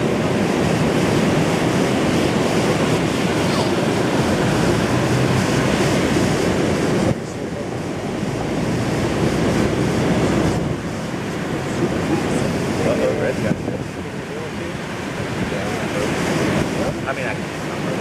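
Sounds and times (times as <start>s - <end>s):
ocean surf: 0.0s - 18.0s
wind on microphone: 0.0s - 18.0s.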